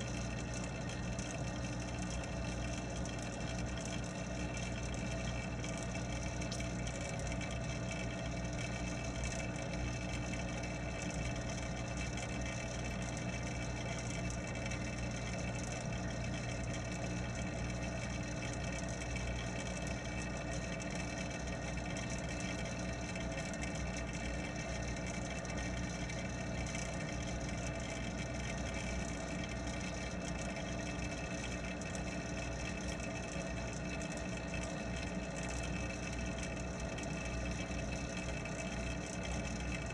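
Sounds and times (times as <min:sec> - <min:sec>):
water pump humming: 0:00.0 - 0:39.9.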